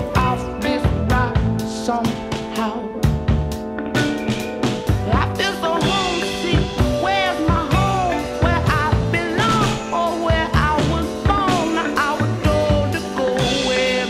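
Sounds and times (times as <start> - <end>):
rock song with vocals: 0.0 - 14.0.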